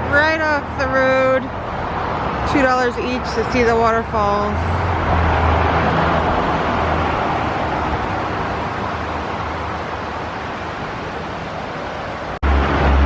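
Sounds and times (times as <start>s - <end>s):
passing vehicle: 0.0s - 13.0s.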